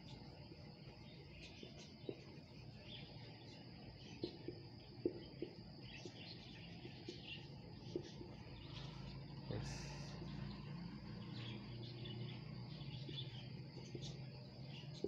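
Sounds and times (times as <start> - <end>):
faint chirping: 0.0 - 15.0.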